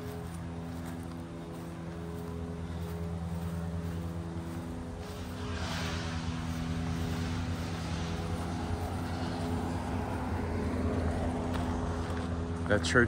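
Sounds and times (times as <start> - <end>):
tyre road noise hiss: 0.0 - 13.0
vehicle engine hum: 0.0 - 13.0.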